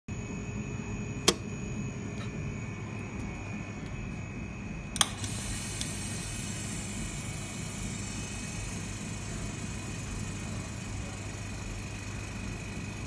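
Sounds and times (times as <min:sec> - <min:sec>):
faint high whine: 0:00.1 - 0:13.0
machine hum: 0:00.1 - 0:13.0.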